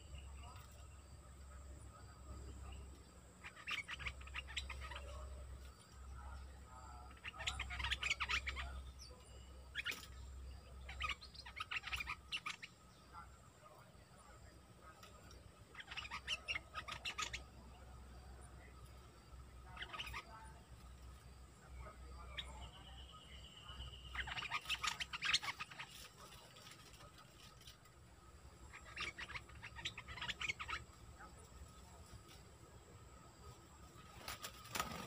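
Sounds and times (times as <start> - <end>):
bird singing rapid notes: 0.0 - 35.0.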